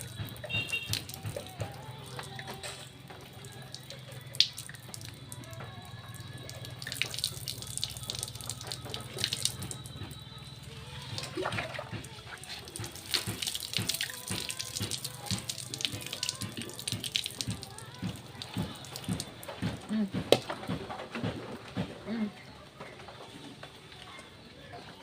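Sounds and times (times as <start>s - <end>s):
water running and splashing: 0.0s - 21.4s
faint music: 0.0s - 25.0s.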